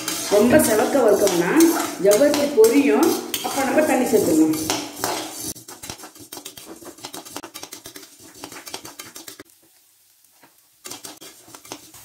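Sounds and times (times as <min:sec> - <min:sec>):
metal spoon scraping pan: 0:00.0 - 0:09.4, 0:10.8 - 0:12.0.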